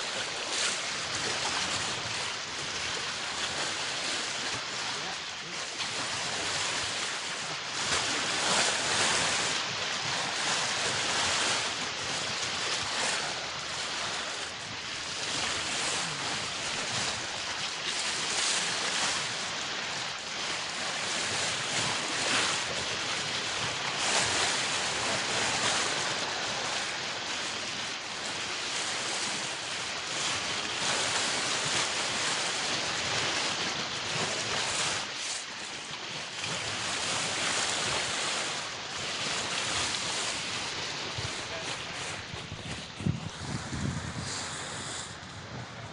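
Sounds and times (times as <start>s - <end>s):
wind on microphone: 0.0s - 35.7s, 36.3s - 45.9s
bow wave splashing along hull: 0.0s - 45.9s.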